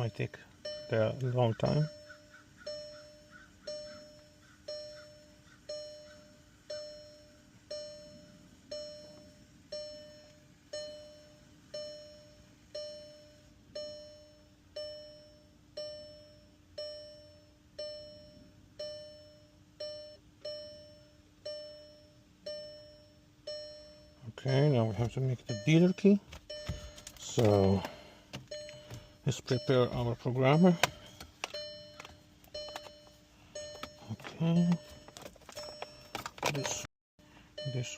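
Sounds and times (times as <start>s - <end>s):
car warning chime dinging: 0.0s - 37.9s.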